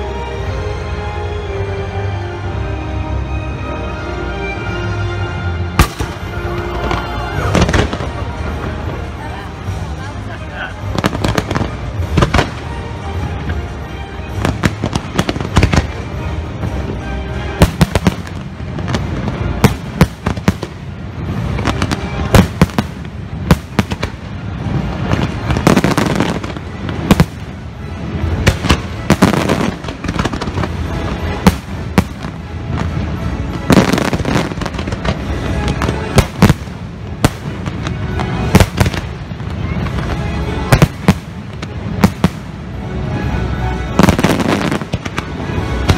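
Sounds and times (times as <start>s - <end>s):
music: 0.0s - 45.9s
fireworks bangs and crackling: 5.7s - 45.9s.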